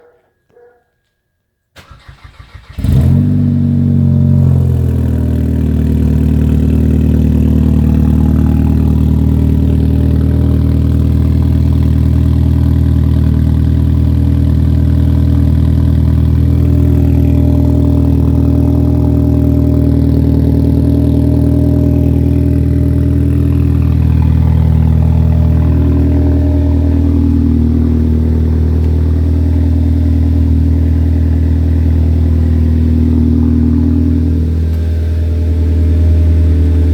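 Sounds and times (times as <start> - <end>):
car engine revving and idling: 1.8 - 36.9.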